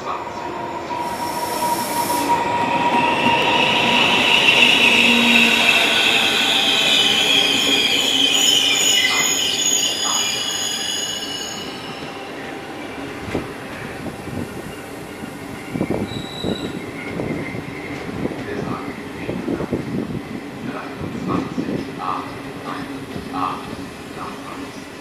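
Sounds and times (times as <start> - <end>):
train coaches rolling past: 0.0 - 25.0.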